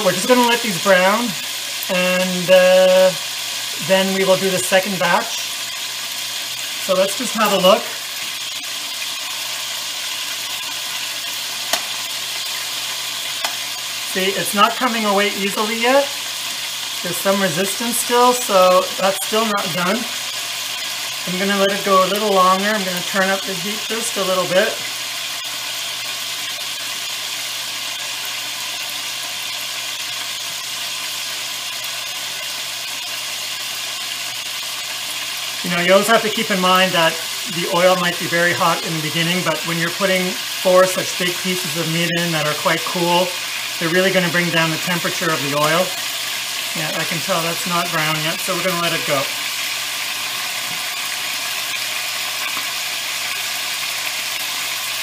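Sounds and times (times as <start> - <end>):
meat sizzling in hot oil: 0.0 - 55.0.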